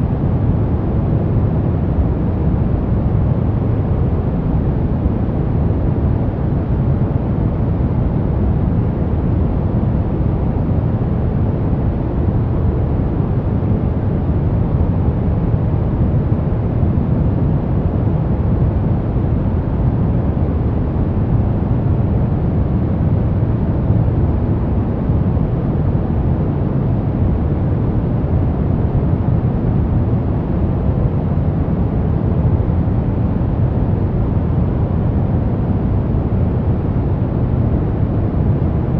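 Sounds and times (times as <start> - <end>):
steady white noise: 0.0 - 38.9.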